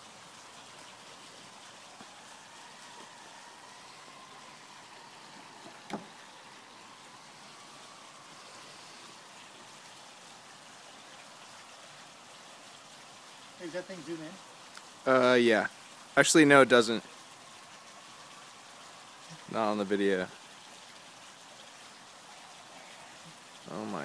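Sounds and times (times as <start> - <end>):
faint outdoor hiss: 0.0 - 24.0.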